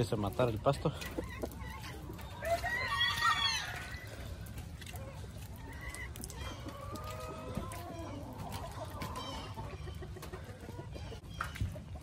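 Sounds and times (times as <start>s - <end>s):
footsteps on wet mud: 0.0s - 10.4s.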